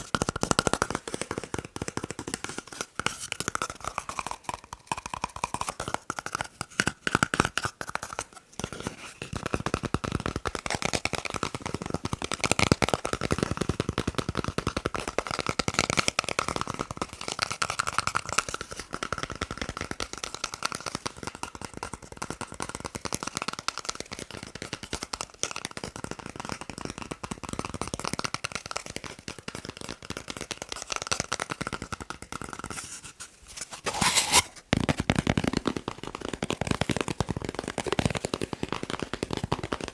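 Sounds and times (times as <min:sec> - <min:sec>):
fast tapping on paper: 0:00.0 - 0:33.2, 0:34.1 - 0:39.9.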